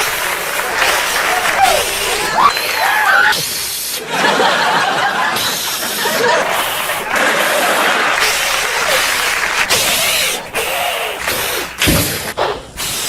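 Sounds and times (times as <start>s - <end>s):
studio audience laughing: 0.0s - 2.5s, 3.1s - 11.8s.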